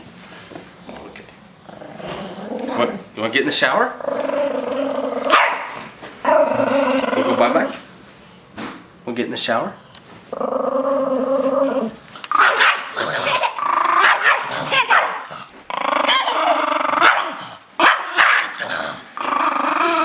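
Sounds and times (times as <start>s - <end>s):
small dog growling and barking: 0.8s - 3.2s, 3.9s - 7.9s, 10.3s - 20.0s.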